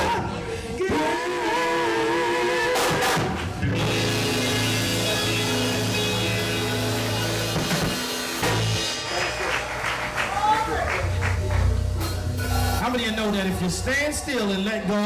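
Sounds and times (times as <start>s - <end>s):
gospel band holding chord: 0.0s - 14.9s.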